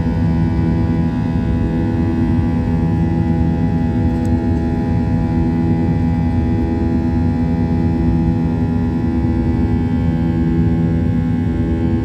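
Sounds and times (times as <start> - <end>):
jet engines heard from cabin: 0.0 - 12.0.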